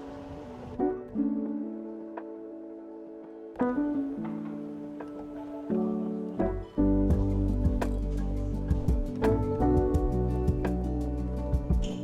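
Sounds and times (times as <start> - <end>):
soft plucked string and keyboard music: 0.0 - 12.0.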